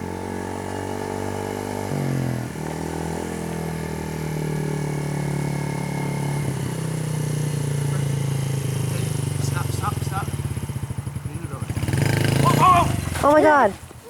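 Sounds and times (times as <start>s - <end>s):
small motorcycle engine running: 0.0s - 14.0s.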